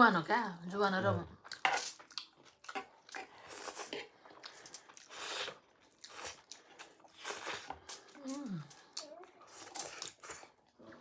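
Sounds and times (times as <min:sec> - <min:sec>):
person chewing food: 0:01.4 - 0:11.0.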